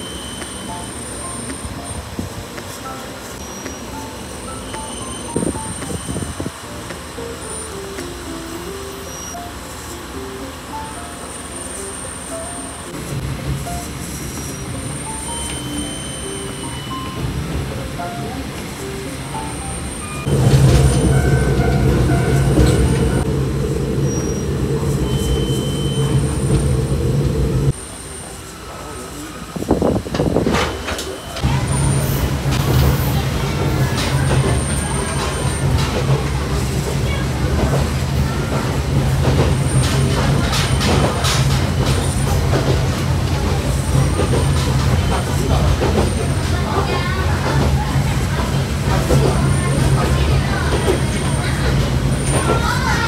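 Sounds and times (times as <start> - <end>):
diesel railcar engine drone: 0.0 - 53.0
rail and wheel noise: 0.0 - 53.0.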